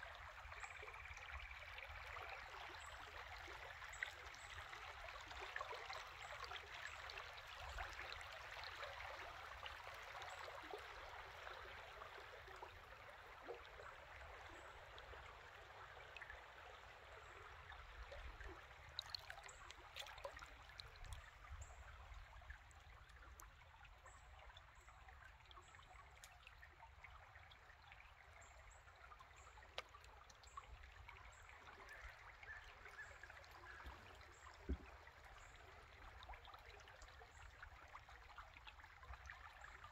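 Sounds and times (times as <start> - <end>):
creek water rushing and rippling: 0.0 - 39.9.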